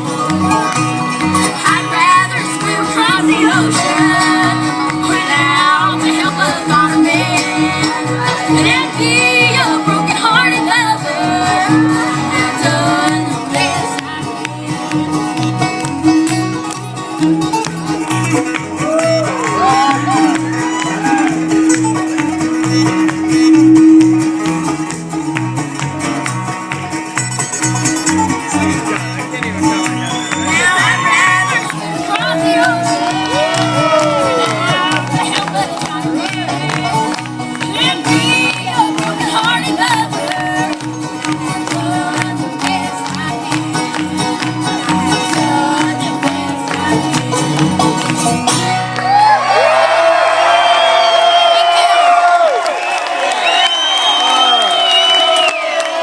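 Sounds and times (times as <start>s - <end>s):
bass beat: 0.0s - 49.5s
fiddle melody: 0.0s - 49.5s
banjo: 0.0s - 49.6s
bluegrass band playing: 0.0s - 55.9s
guitar: 0.0s - 56.0s.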